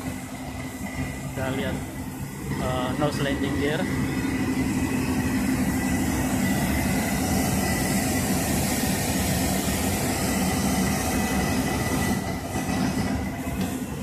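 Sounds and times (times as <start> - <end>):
engine drone with high whine: 0.0 - 14.0.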